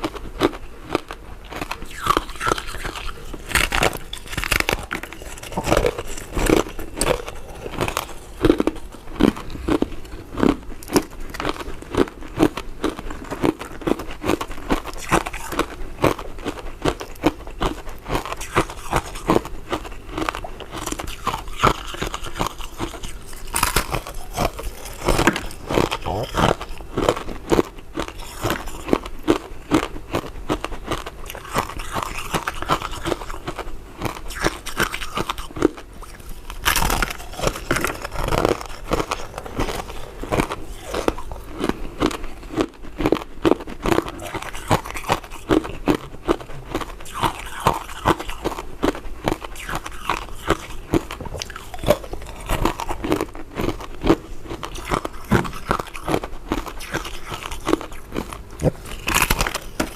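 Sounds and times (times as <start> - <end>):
mints being bitten and chewed: 0.0 - 59.9.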